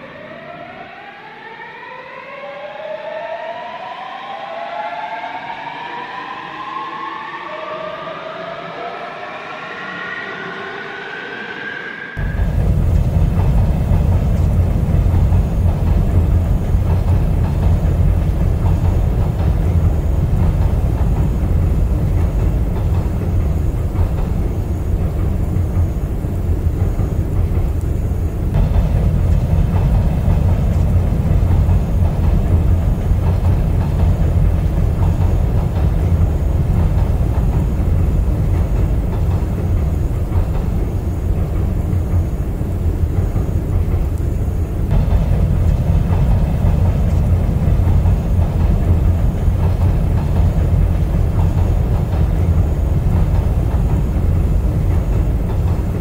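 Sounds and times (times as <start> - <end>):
moving train rumble: 0.0 - 56.0.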